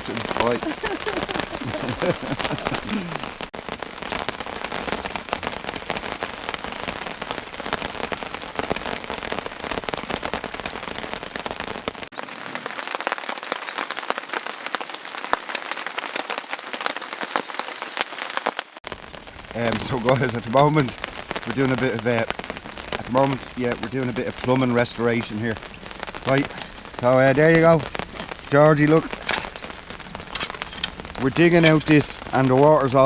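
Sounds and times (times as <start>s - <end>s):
close raindrops striking: 0.0s - 33.0s
heavy rain falling: 0.0s - 33.0s.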